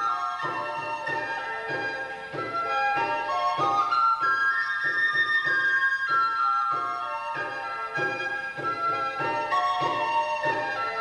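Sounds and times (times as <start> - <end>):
flute melody: 0.0 - 11.0.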